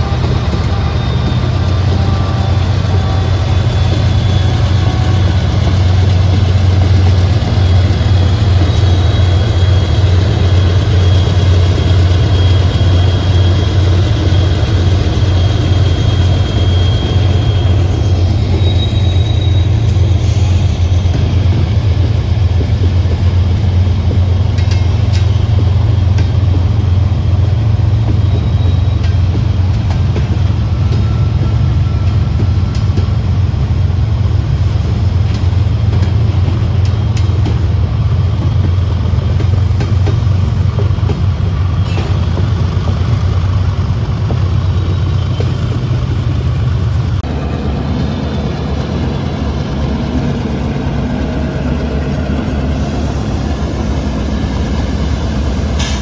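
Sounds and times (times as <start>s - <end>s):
diesel locomotive engine drone: 0.0s - 56.0s
train rumbling past: 0.0s - 56.0s.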